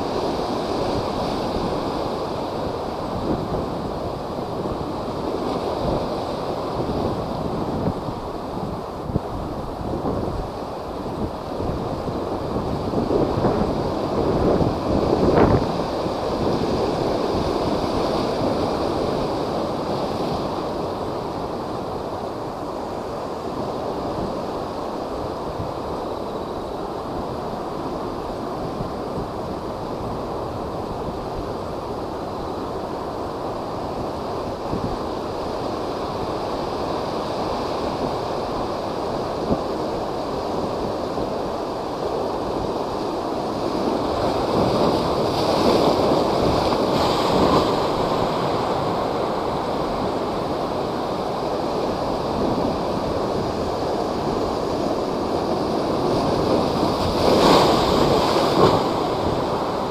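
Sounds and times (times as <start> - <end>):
storm waves breaking: 0.0 - 59.9
wind buffeting microphone: 0.0 - 59.9.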